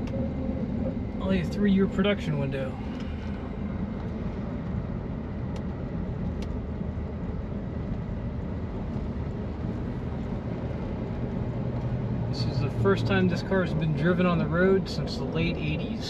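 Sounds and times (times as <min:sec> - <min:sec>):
car engine and tyres droning: 0:00.0 - 0:16.0.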